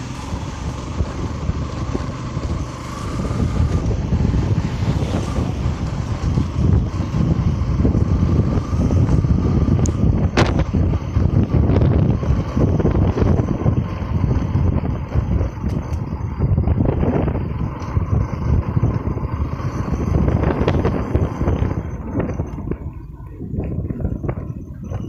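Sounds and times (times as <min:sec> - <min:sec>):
motorcycle engine running: 0:00.0 - 0:25.0
wind buffeting on microphone: 0:00.0 - 0:25.0.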